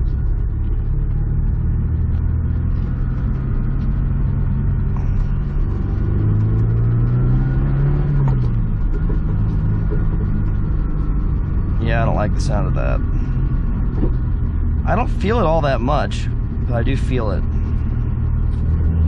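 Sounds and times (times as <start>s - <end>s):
car engine while driving: 0.0s - 19.0s.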